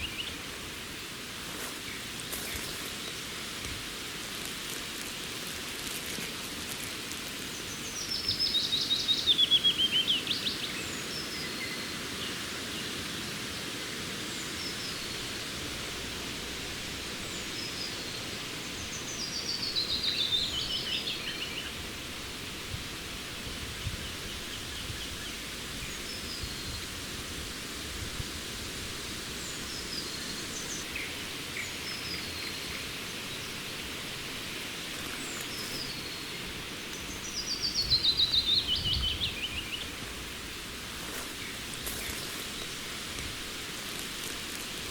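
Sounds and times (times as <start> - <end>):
songbird singing: 0.0 - 0.4, 4.3 - 22.0, 23.6 - 27.2, 29.2 - 44.9
outdoor ambience hiss: 0.0 - 44.9.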